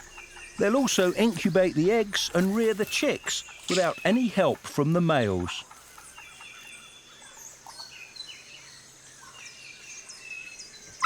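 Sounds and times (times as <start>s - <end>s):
faint steady background noise: 0.0s - 11.0s
forest birds chirping: 0.0s - 11.0s.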